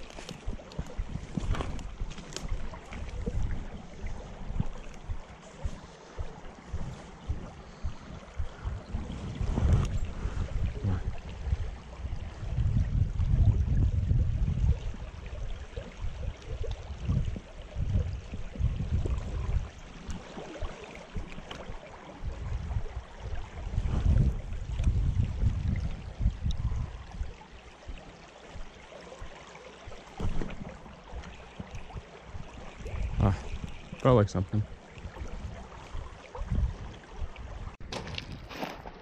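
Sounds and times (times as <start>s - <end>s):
low rumbling on microphone: 0.0s - 29.3s, 29.9s - 38.4s
creek water running: 0.0s - 39.0s.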